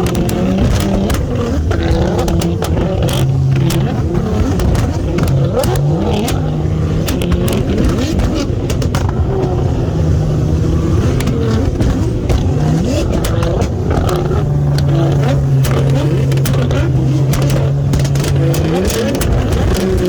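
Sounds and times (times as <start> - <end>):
sharp clicks: 0.0 - 9.6, 10.9 - 20.0
car engine revving: 0.0 - 20.0.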